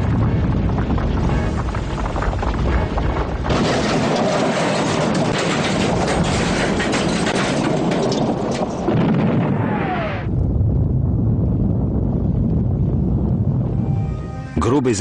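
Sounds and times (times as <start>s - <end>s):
loud crash and explosion: 0.0s - 13.7s
boulder rolling rumble: 0.0s - 13.8s.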